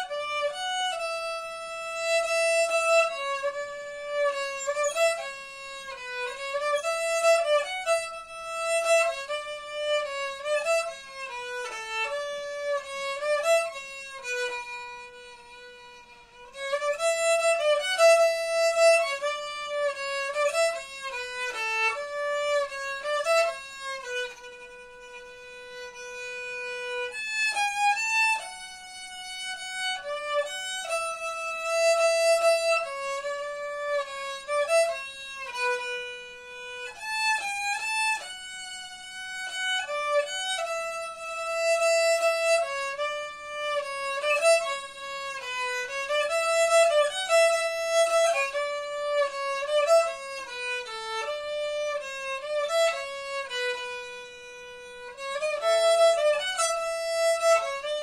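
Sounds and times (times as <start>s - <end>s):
solo violin melody: 0.0s - 58.0s.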